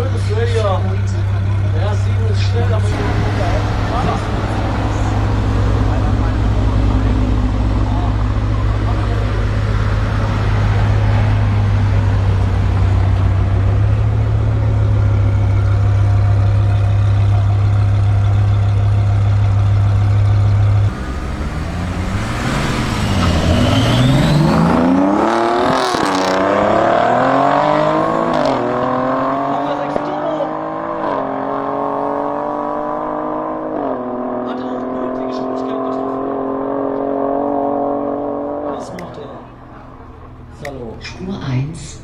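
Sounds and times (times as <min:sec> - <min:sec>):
car accelerating through gears: 0:00.0 - 0:17.3, 0:20.8 - 0:41.3
car engine droning: 0:00.0 - 0:42.0.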